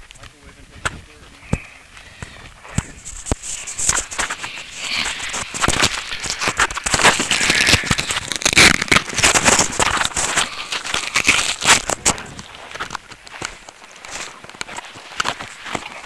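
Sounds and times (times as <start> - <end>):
camera handling crackling and rattling: 0.9 - 16.0.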